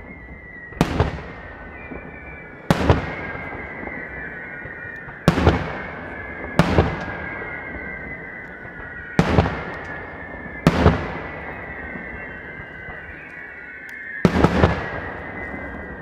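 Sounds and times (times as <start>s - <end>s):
high falling whistle: 0.0s - 16.0s.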